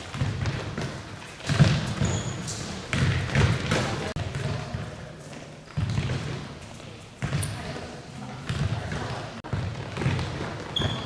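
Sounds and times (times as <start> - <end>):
balls thudding on hall floor: 0.0 - 11.0.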